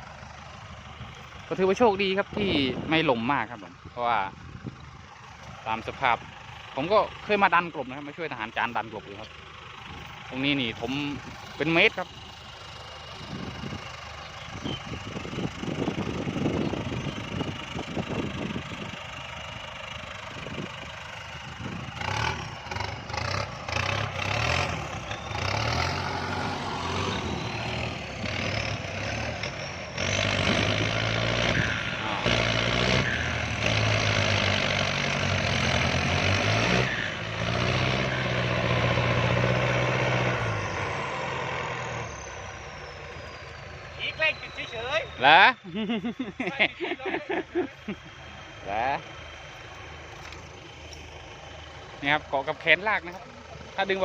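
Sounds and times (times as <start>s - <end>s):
engine knocks and clatter: 0.0s - 54.0s
tractor diesel engine running: 0.0s - 54.0s.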